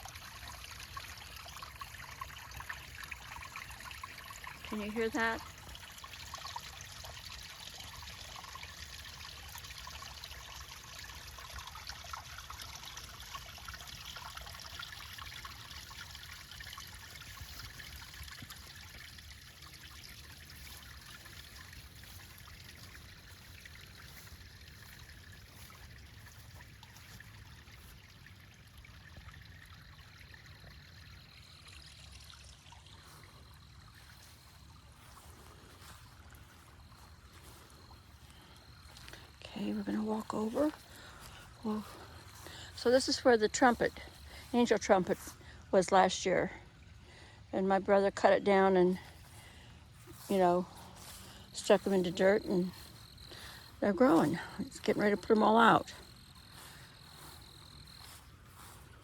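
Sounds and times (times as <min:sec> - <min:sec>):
stream of water trickling: 0:00.0 - 0:59.0.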